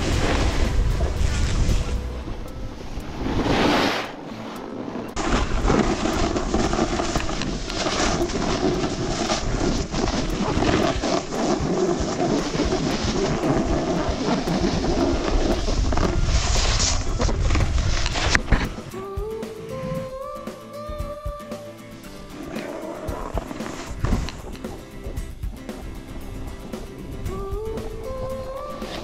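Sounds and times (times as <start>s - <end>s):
wind rumbling on microphone: 0.0s - 18.9s, 22.5s - 29.0s
snowboard sliding over snow: 0.0s - 20.4s, 22.1s - 29.0s.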